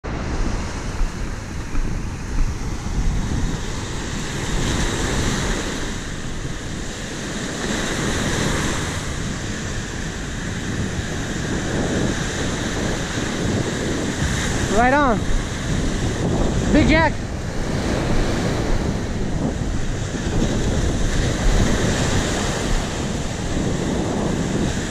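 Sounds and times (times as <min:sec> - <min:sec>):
surf breaking on beach: 0:00.0 - 0:24.9
wind rumbling on microphone: 0:00.0 - 0:24.9.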